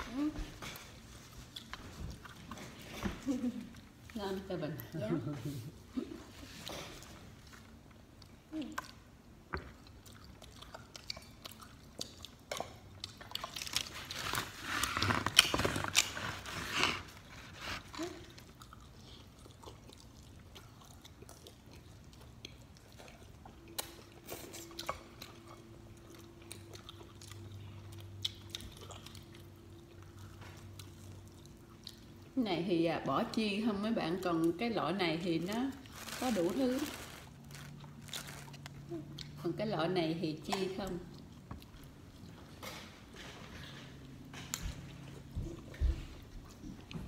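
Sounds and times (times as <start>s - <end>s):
people chewing pizza: 0.0s - 32.4s, 35.4s - 39.6s, 40.6s - 47.0s
faint steady hum: 0.0s - 47.0s.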